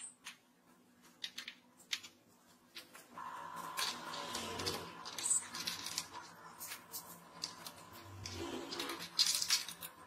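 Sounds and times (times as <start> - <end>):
metal parts clicking and tapping: 0.0 - 3.0, 3.7 - 10.0.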